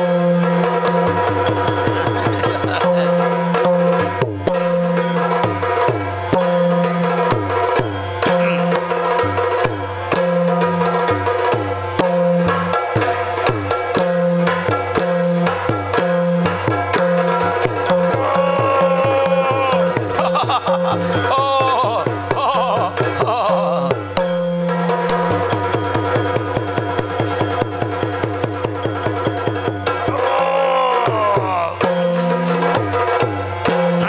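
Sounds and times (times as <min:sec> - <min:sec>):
drum beaten in rapid strokes: 0:00.0 - 0:34.0.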